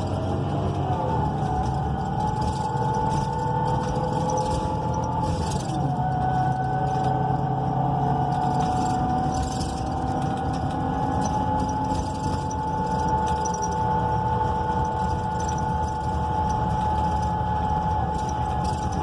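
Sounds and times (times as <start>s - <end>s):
bus cabin rattles: 0.0s - 19.0s
bus engine rumble: 0.0s - 19.0s
drivetrain whine: 0.0s - 19.0s.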